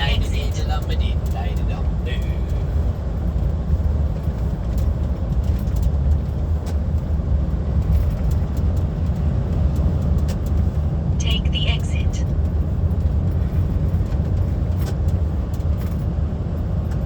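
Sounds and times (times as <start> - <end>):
truck engine and tyres droning: 0.0 - 17.0.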